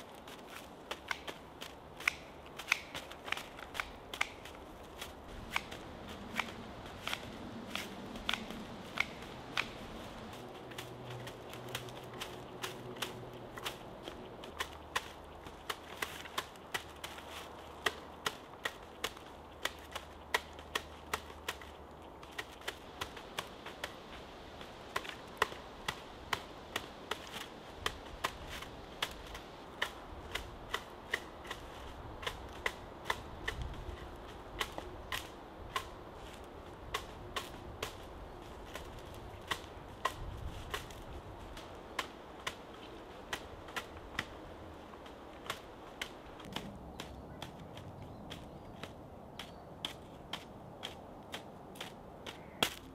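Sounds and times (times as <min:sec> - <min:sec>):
wooden paddle tapping thatch: 0:00.0 - 0:52.9.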